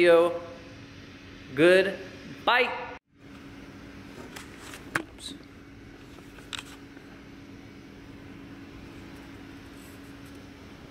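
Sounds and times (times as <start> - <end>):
electrical hum: 0.0 - 10.9.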